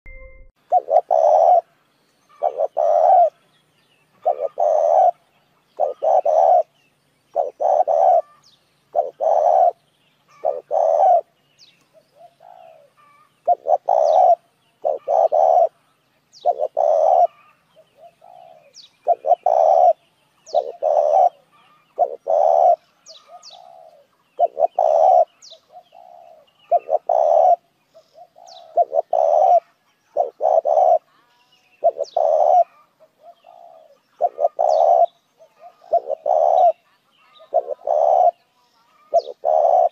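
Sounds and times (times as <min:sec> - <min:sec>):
dove cooing: 0:00.6 - 0:03.4, 0:04.1 - 0:39.9
small birds chirping: 0:00.6 - 0:39.9.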